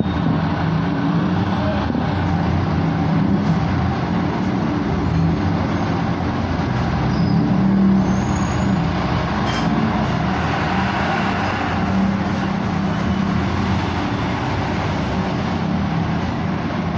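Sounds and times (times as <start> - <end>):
street traffic engines humming: 0.0 - 16.9.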